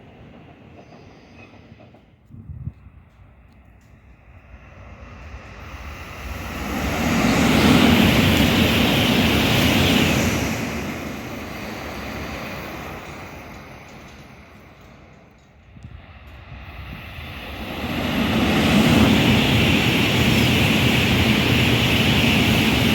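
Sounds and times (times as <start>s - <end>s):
high-speed train passing: 0.0s - 22.9s.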